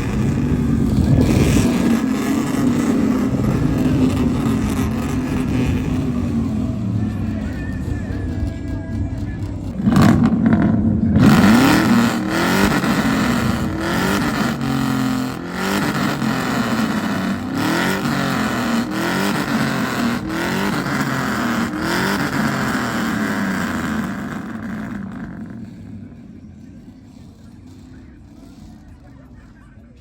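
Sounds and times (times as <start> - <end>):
vehicle engine revving: 0.0 - 30.0.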